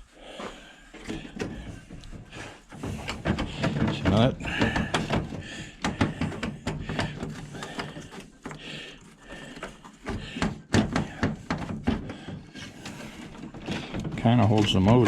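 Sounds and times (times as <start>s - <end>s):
clatter of tools and metal parts: 0.3s - 15.0s.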